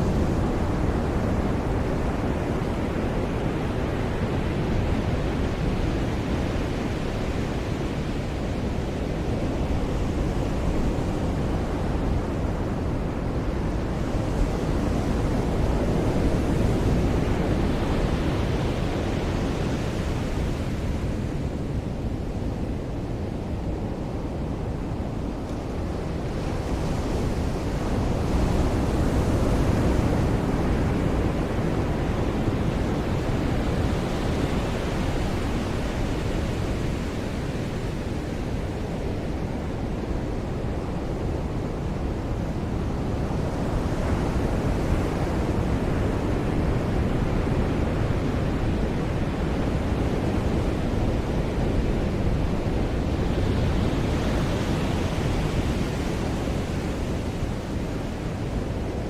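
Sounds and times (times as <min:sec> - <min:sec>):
ocean surf breaking on beach: 0:00.0 - 0:59.0
wind on microphone: 0:00.0 - 0:59.0.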